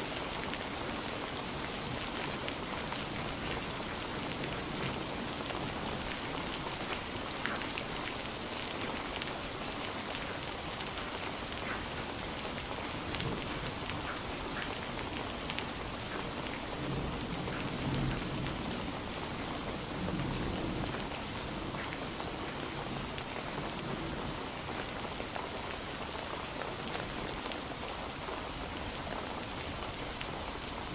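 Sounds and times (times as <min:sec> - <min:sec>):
rain with drops ticking: 0:00.0 - 0:30.9.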